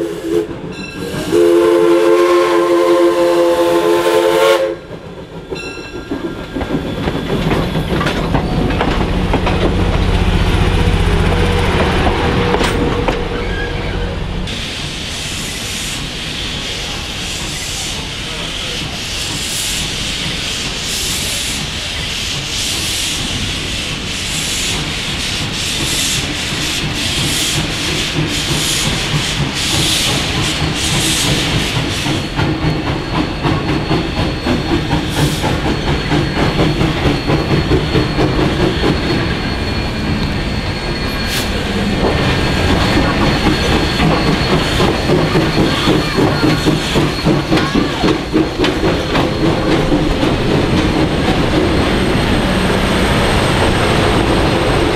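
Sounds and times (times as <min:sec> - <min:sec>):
steam locomotive chuffing: 0:00.0 - 0:54.9
train wheels clattering on rails: 0:04.0 - 0:54.9.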